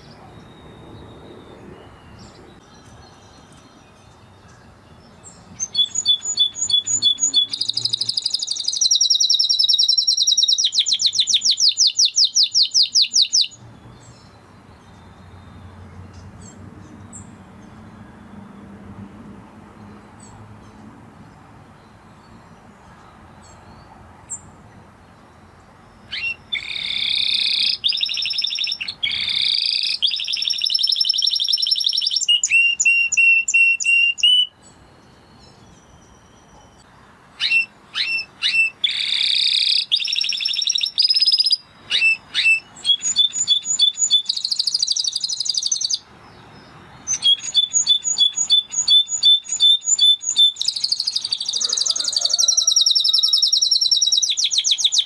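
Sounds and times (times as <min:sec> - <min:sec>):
canary singing: 0:00.0 - 0:18.8, 0:21.8 - 0:55.0.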